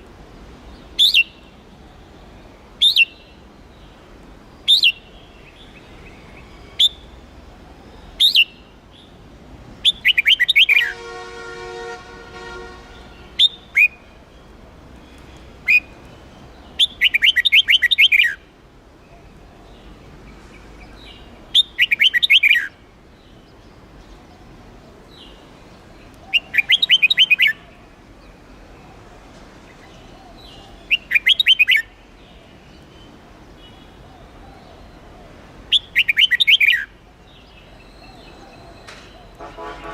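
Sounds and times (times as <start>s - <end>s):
bird singing warbling phrases: 0.7s - 4.0s, 4.6s - 7.2s, 7.9s - 9.2s, 9.8s - 11.0s, 12.1s - 18.5s, 20.8s - 28.4s, 29.9s - 39.9s.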